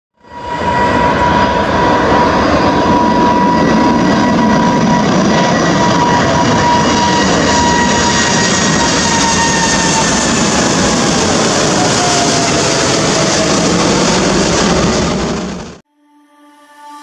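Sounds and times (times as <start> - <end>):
jet engines roaring with whine: 0.2 - 15.8.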